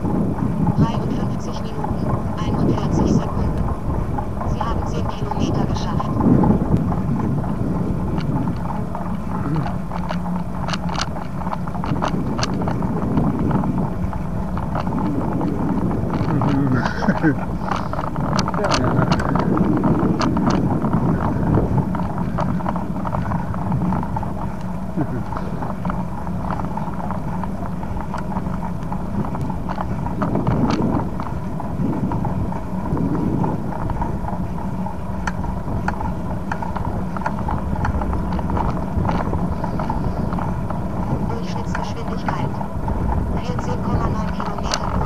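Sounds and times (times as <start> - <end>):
bicycle rolling: 0.0 - 45.0
wind rumble: 0.0 - 45.0
bicycle clicks and rattles: 1.8 - 45.0.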